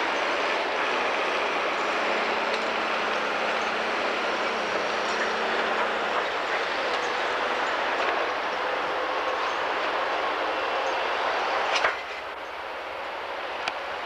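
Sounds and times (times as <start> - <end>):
heavy machinery din: 0.0 - 12.2.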